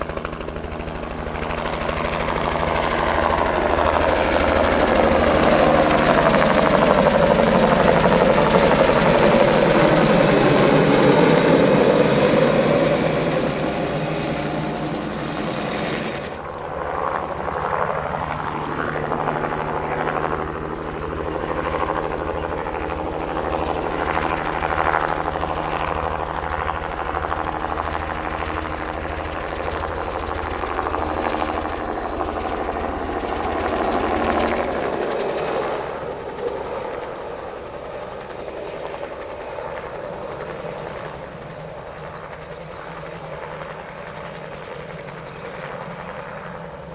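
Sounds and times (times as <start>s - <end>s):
helicopter rotor beating: 0.0s - 46.9s.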